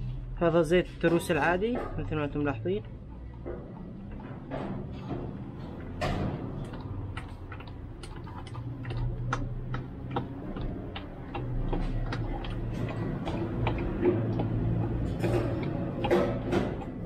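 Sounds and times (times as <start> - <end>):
oil dripping into funnel: 2.3 - 17.0
steady low hum: 2.3 - 17.0.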